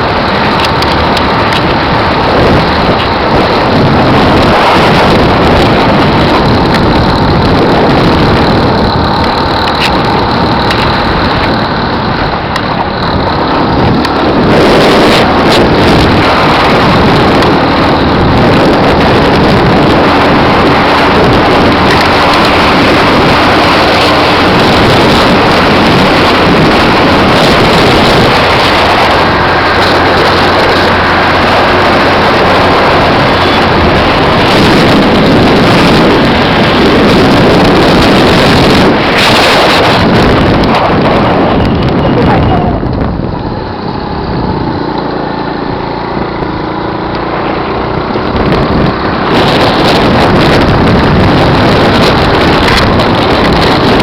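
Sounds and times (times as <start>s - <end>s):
helicopter rotor and engine noise: 0.0s - 54.0s
rotor wash buffeting microphone: 0.0s - 54.0s.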